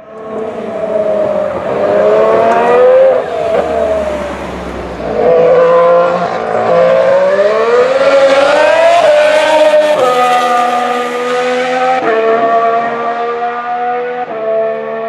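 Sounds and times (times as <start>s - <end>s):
race car engine accelerating: 0.1s - 15.0s.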